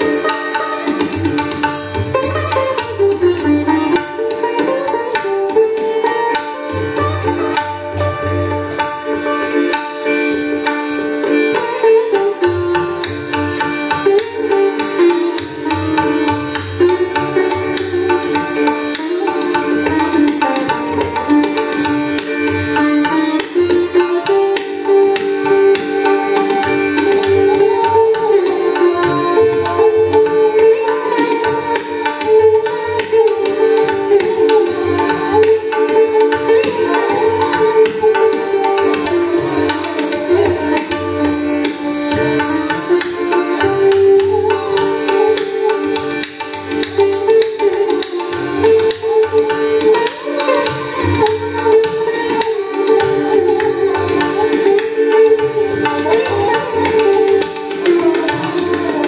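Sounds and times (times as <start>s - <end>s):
tabla: 0.0s - 59.0s.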